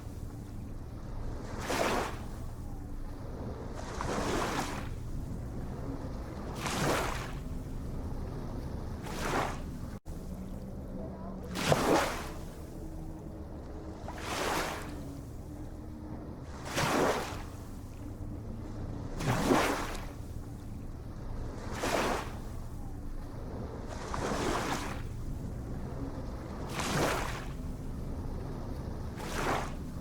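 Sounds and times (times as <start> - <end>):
small ocean waves breaking: 0.0 - 30.0.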